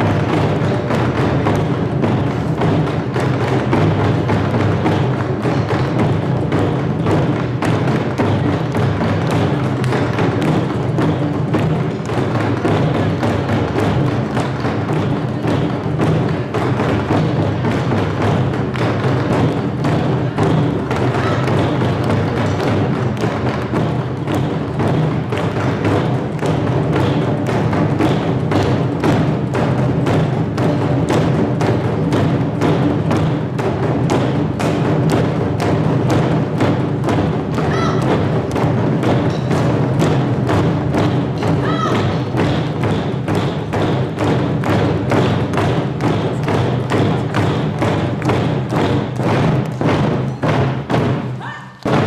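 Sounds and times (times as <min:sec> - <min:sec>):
music with fast thumping beat: 0:00.0 - 0:52.0.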